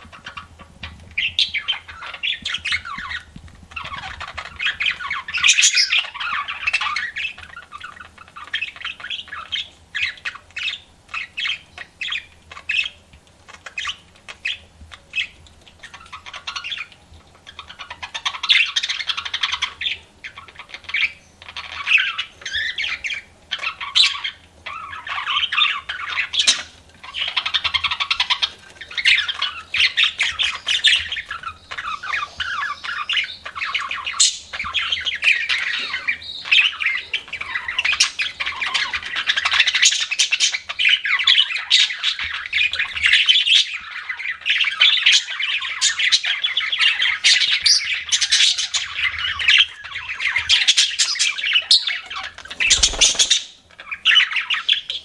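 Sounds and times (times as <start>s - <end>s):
budgerigars chattering and warbling: 0.0s - 55.0s.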